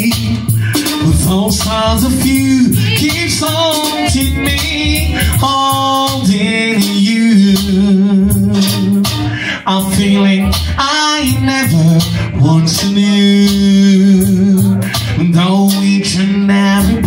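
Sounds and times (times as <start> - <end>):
backing music with beat: 0.0 - 17.0
man singing into microphone: 0.0 - 17.0.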